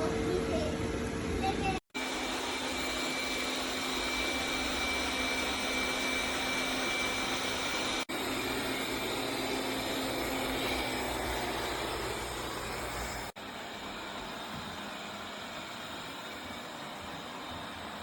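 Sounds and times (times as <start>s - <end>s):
robot vacuum cleaner running: 2.0s - 18.0s.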